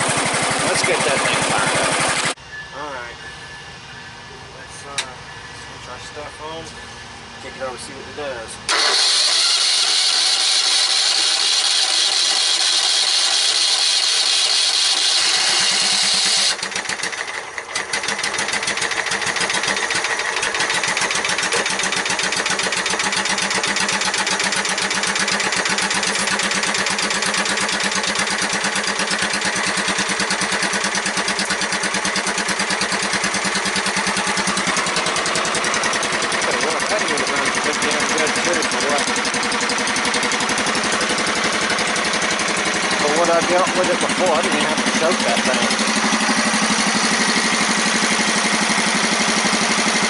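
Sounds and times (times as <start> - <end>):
high-pitched racing engine: 0.6 - 16.6, 20.6 - 50.0.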